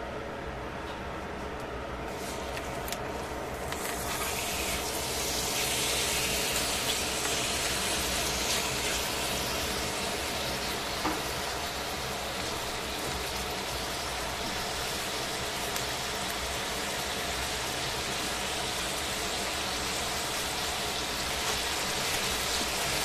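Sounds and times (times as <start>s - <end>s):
chicken sizzling in frying pan: 2.1s - 23.0s.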